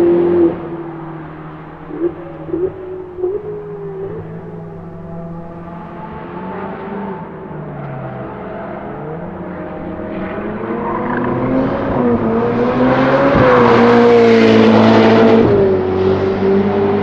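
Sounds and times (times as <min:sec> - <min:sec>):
sports car accelerating hard: 0:00.0 - 0:17.0.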